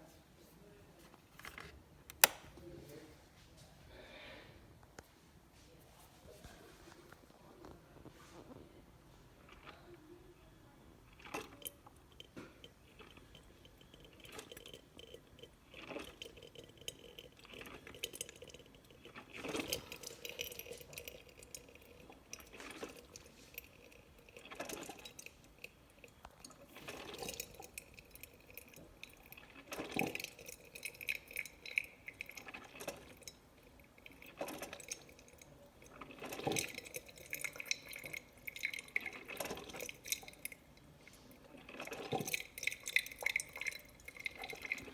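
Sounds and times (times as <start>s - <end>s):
coffee maker gurgling and dripping: 6.4s - 44.9s.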